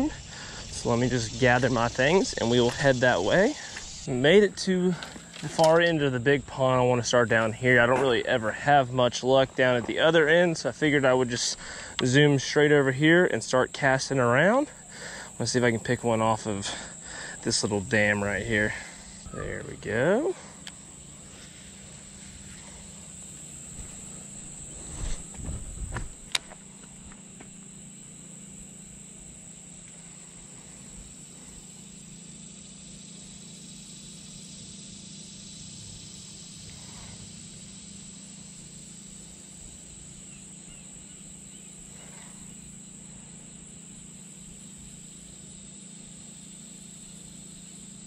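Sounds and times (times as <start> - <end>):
faint low hum: 0.0 - 47.6
insects buzzing: 0.0 - 48.0.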